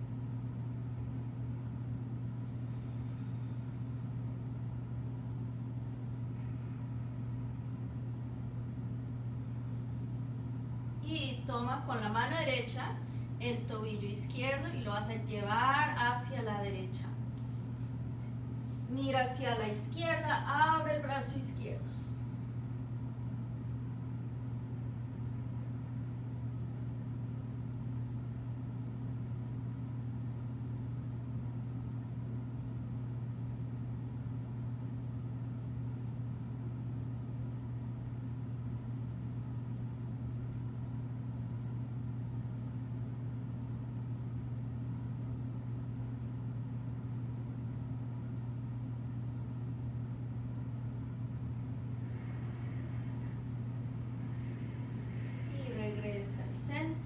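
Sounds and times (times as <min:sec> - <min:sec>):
steady low electrical hum: 0:00.0 - 0:57.0.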